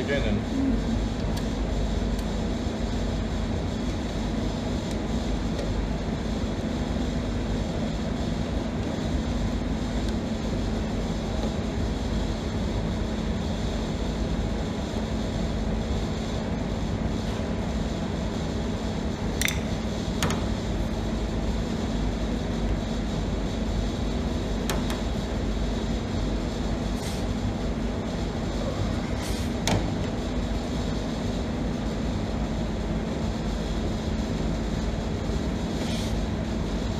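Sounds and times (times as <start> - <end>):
steady mechanical hum: 0.0 - 36.9.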